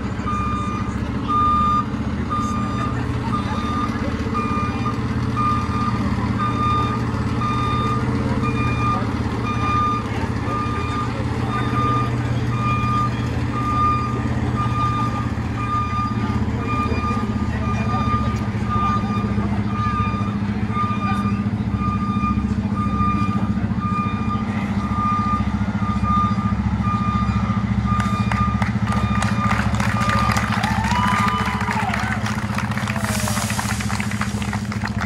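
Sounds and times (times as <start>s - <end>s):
reversing alarm beeping: 0.0s - 34.5s
truck engine running: 0.0s - 35.0s.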